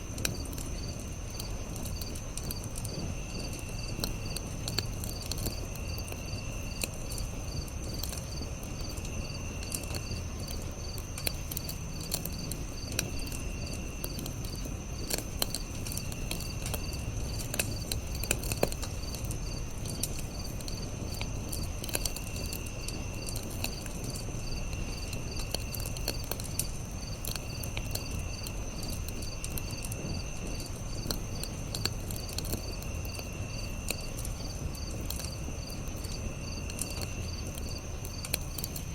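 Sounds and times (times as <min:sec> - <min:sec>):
campfire crackling and popping: 0:00.0 - 0:38.9
crickets chirping: 0:00.0 - 0:38.9
high insect drone: 0:00.2 - 0:38.9.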